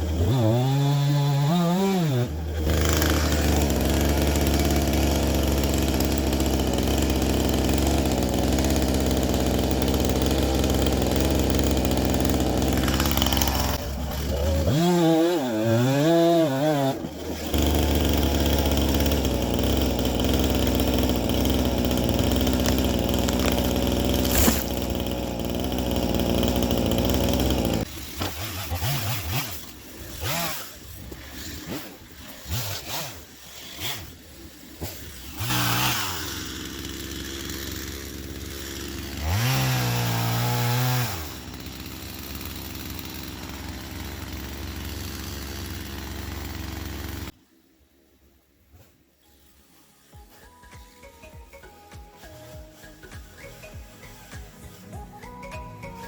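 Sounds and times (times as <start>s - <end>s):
chainsaw running and revving: 0.0s - 47.4s.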